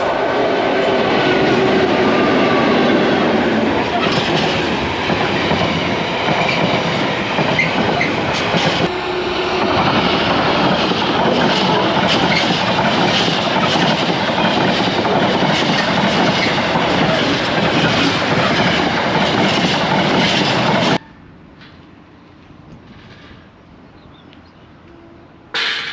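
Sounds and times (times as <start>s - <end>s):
train passing on rails: 0.0s - 25.9s.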